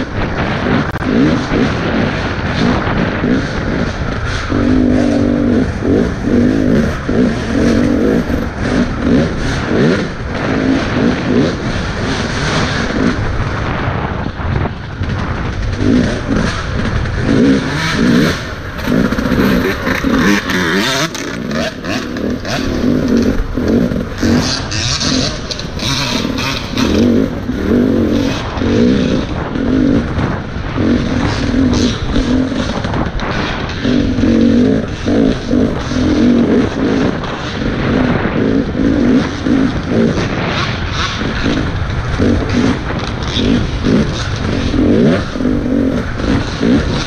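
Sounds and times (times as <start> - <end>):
dirt bike engine revving: 0.0 - 47.0
rushing wind: 0.0 - 47.0.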